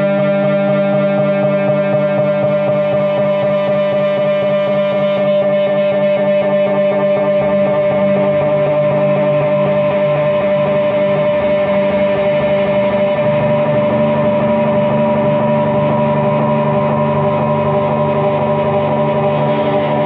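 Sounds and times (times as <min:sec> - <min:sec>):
droning electric guitar: 0:00.0 - 0:20.0.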